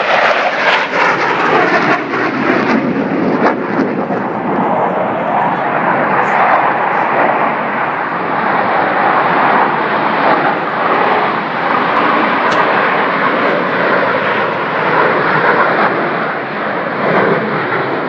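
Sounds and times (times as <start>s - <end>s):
airplane flying over: 0.0s - 18.0s.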